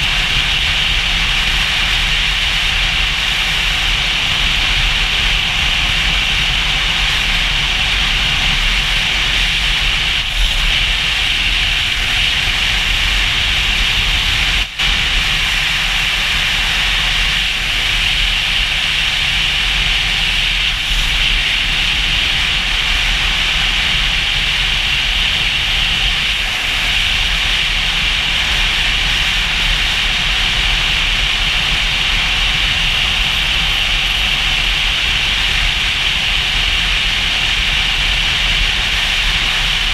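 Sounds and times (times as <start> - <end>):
wind and motorcycle road noise: 0.0 - 39.9.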